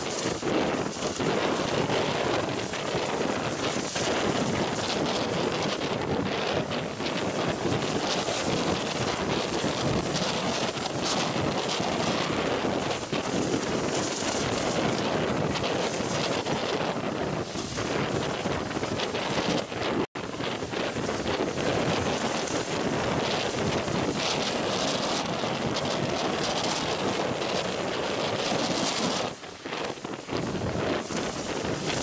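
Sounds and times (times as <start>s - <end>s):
storm surf breaking: 0.0s - 32.0s
wind buffeting microphone: 0.0s - 32.0s.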